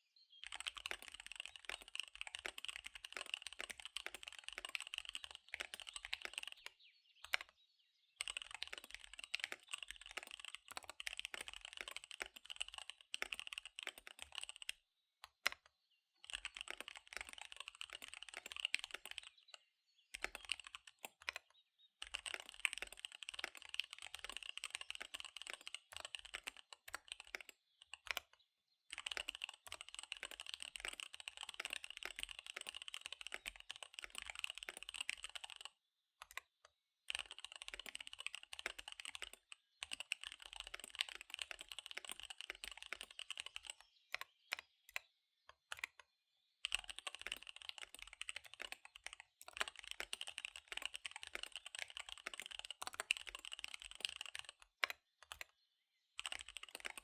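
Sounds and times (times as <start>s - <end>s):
fast typing on mechanical keyboard: 0.4s - 7.5s, 8.2s - 46.0s, 46.6s - 55.5s, 56.2s - 57.0s.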